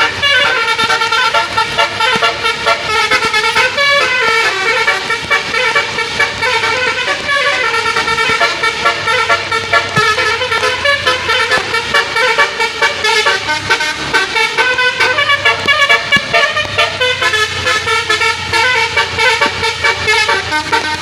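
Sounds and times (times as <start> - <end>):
musical vehicle horn melody: 0.0 - 21.0.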